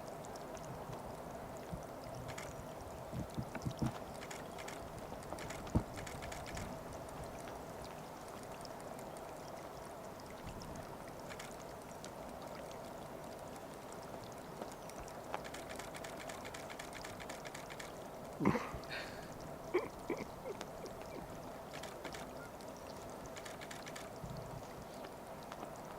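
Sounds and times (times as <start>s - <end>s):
faint ticks: 0.0s - 25.9s
trickling water hiss: 0.0s - 25.9s.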